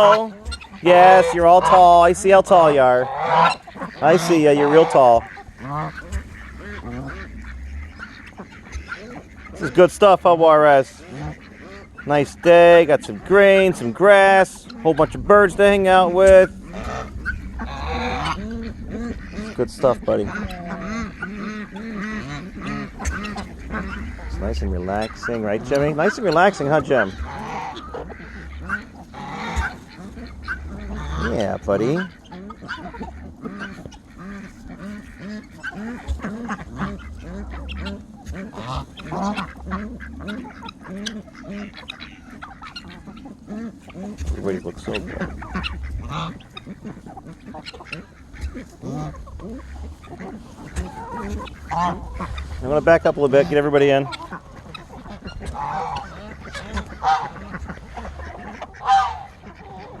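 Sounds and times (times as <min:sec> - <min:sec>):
ducks quacking: 0:00.0 - 1:00.0
geese honking: 0:00.0 - 1:00.0.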